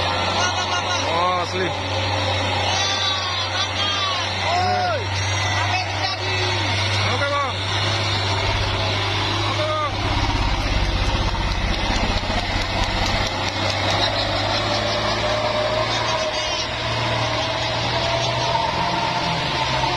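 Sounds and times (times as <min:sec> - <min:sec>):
truck engine running: 0:00.0 - 0:19.9.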